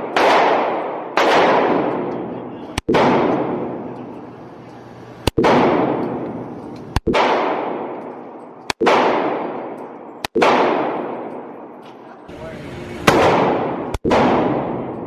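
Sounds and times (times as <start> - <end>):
pistol shots echoing: 0.0 - 4.1, 5.2 - 11.8, 13.0 - 15.0.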